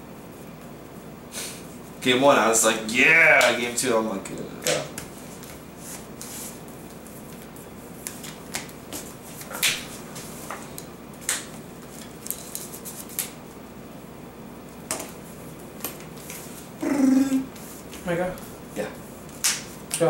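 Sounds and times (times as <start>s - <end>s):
room hum: 0.0s - 20.0s.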